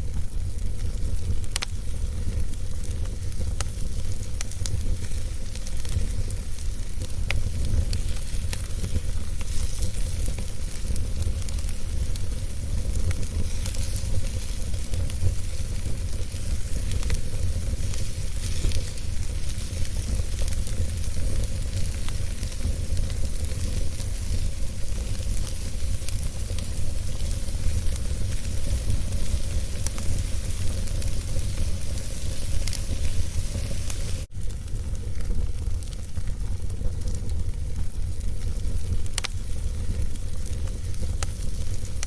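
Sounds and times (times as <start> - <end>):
fire crackles and pops: 0.0 - 42.0
fire rumbling and hissing: 0.0 - 42.0.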